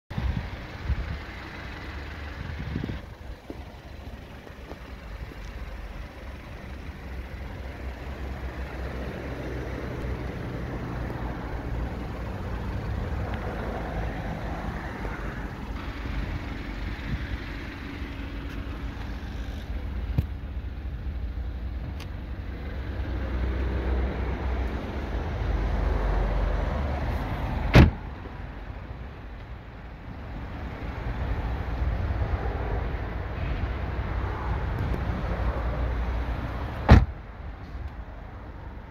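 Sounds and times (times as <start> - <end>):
wind: 0.1 - 38.9
distant traffic: 0.2 - 38.9.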